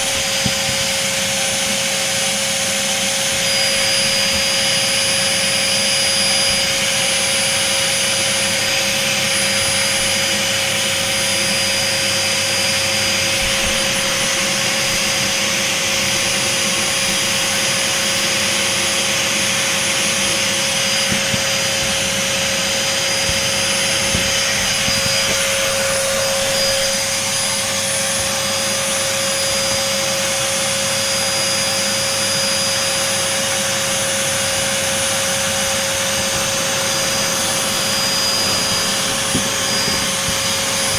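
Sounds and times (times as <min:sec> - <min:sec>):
vacuum cleaner whining: 0:00.0 - 0:40.9.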